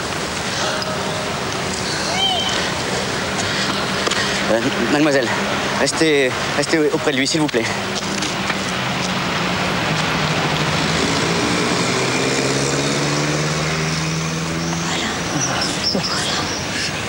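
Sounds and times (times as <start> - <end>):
car engine running: 0.0 - 16.2
steady rushing background noise: 0.0 - 17.0.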